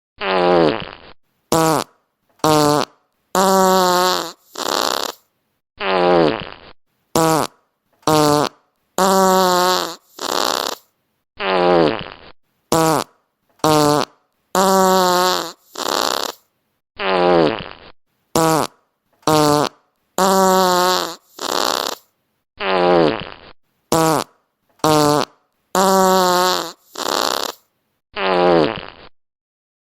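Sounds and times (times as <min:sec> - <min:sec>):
fart sound effects: 0:00.2 - 0:29.2.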